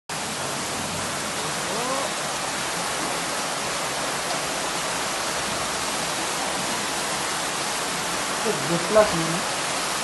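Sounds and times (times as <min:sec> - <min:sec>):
floodwater pouring through doorway: 0:00.1 - 0:10.0
heavy downpour: 0:00.1 - 0:10.0.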